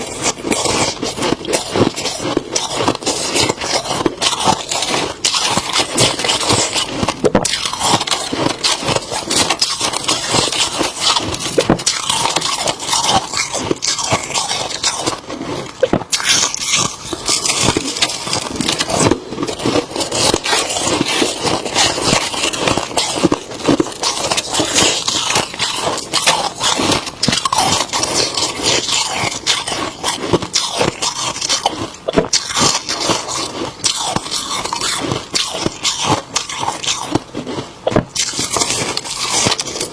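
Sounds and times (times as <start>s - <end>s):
frost being scraped and crunched: 0.0s - 39.9s.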